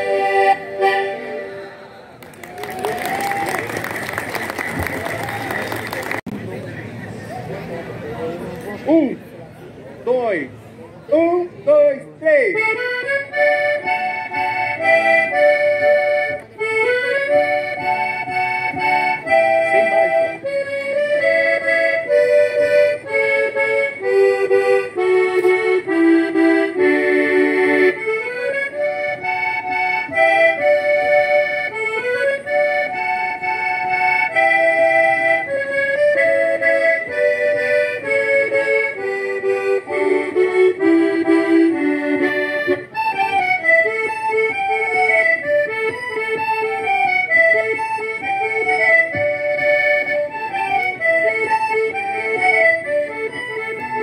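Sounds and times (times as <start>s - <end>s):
accordion playing lively melody: 0.0s - 6.7s, 11.1s - 54.0s.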